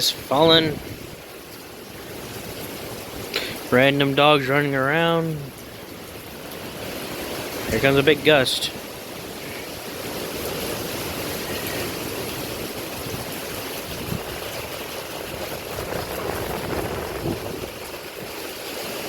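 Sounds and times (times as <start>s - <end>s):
strong wind with rain: 0.0s - 19.0s.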